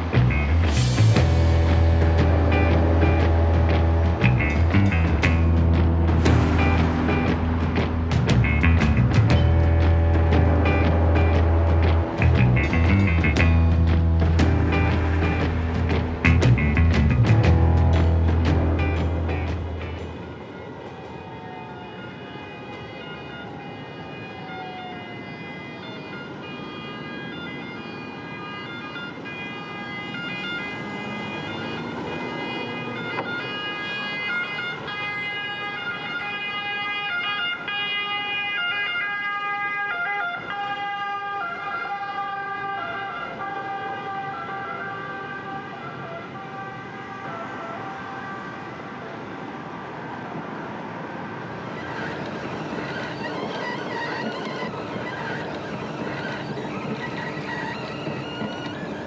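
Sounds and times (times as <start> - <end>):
emergency vehicle siren: 0.0 - 59.0
street traffic noise: 0.0 - 59.0.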